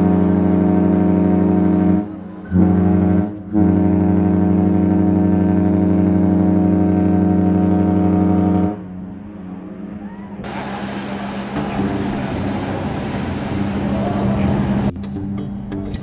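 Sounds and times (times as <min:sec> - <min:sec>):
deep ship's horn blast: 0:00.0 - 0:14.9.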